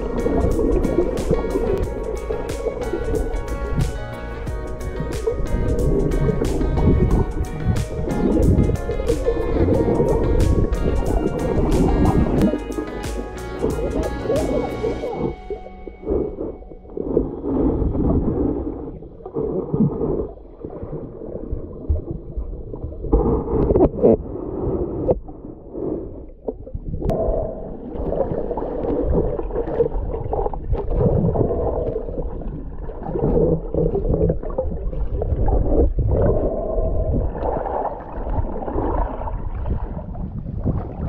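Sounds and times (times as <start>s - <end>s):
underwater sloshing and gurgling: 0.0s - 13.0s, 13.6s - 41.0s.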